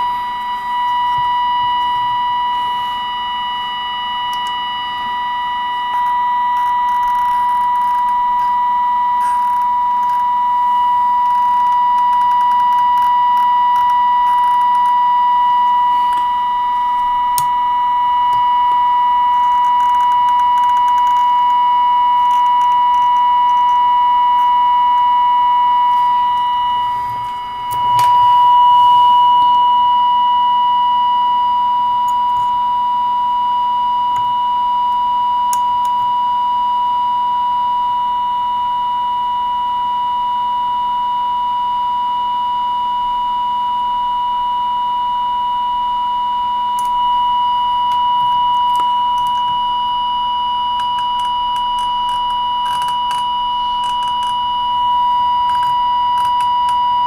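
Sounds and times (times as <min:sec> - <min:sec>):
high test tone from loudspeaker: 0:00.0 - 0:57.0.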